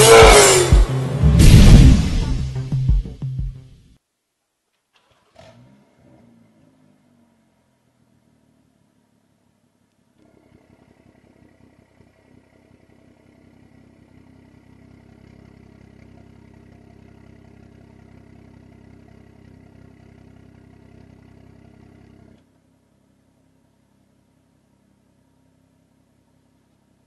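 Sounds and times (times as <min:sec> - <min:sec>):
car exhaust drone: 0:00.0 - 0:02.6, 0:05.2 - 0:27.0.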